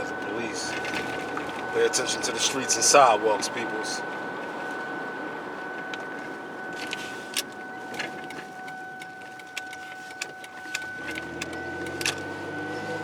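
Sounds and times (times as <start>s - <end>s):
car engine and road noise: 0.0s - 13.0s
low engine hum: 0.0s - 13.0s
thin steady whine: 0.0s - 13.0s.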